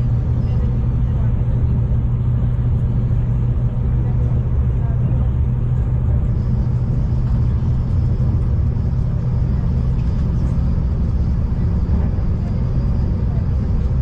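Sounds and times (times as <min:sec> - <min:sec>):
diesel train engine drone: 0:00.0 - 0:14.0.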